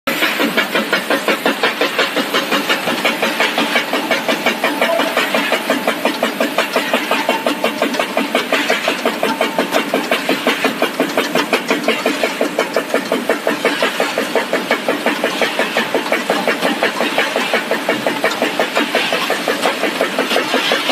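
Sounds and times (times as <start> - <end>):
machinery pulsing clatter: 0.1 - 20.9.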